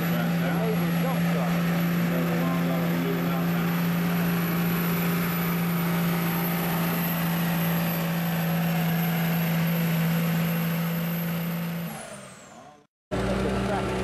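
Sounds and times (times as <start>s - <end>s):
diesel truck engine running hard: 0.0s - 14.0s.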